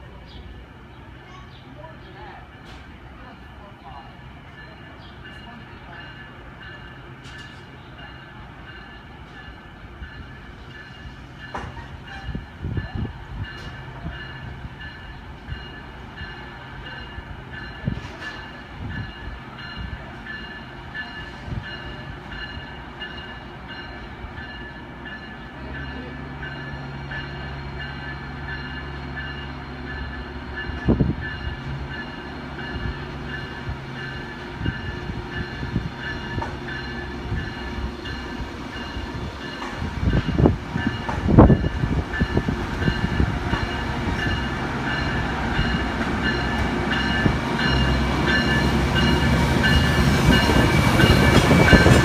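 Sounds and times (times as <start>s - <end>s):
diesel locomotive engine hum: 0.0s - 52.0s.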